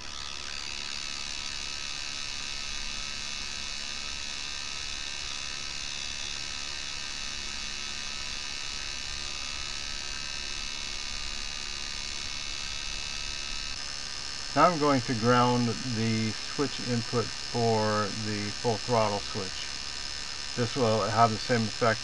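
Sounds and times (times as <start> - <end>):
steady electrical buzz: 0.0 - 22.0.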